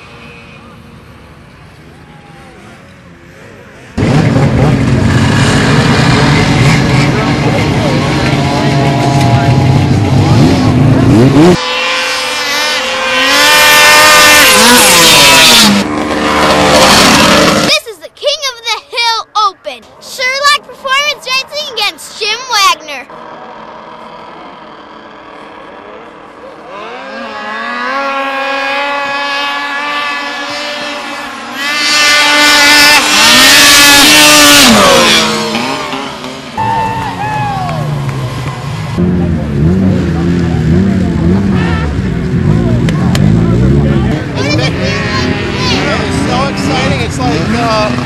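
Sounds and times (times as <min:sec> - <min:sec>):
snowmobile engine revving past: 0:04.0 - 0:17.8, 0:23.0 - 0:48.0.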